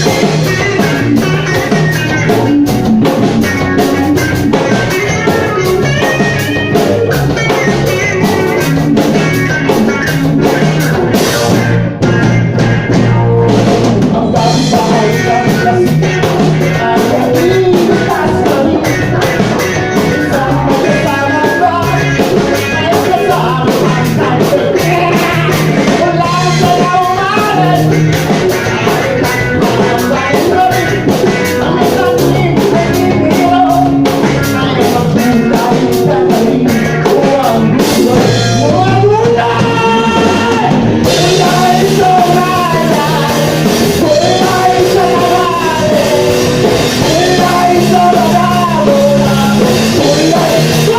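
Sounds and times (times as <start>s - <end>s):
rock band playing: 0.0s - 50.9s.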